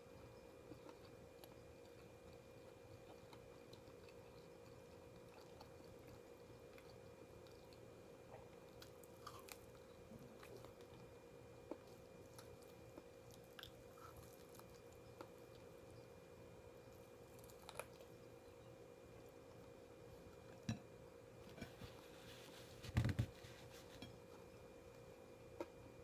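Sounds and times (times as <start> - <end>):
steady hum: 0.0 - 26.0
faint chewing: 0.1 - 25.8.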